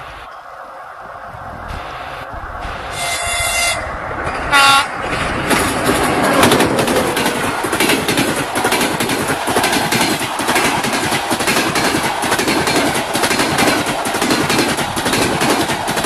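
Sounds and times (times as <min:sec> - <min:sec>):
rushing rumble of passing coaches: 0:00.0 - 0:16.0
train wheels clattering on rails: 0:02.6 - 0:16.0.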